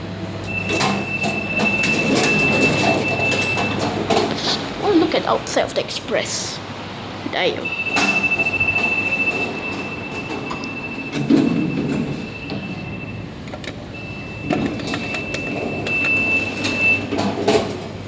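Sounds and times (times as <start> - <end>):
lift car rattling and rumbling: 0.0 - 18.0.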